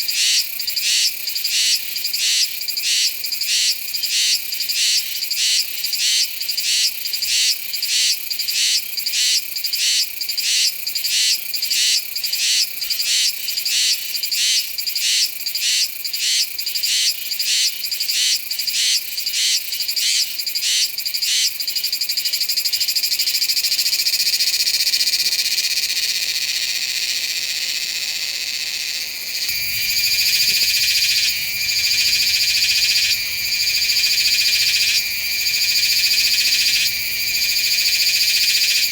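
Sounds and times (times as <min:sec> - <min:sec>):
cicada singing: 0:00.0 - 0:38.9.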